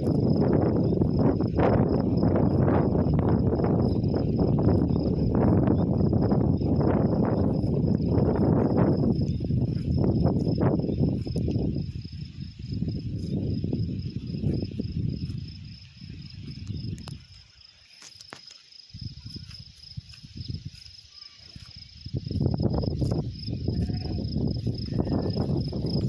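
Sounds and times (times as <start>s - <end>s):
low rumble in gusts: 0.0s - 17.2s, 21.8s - 26.0s
insect trilling: 0.0s - 26.0s.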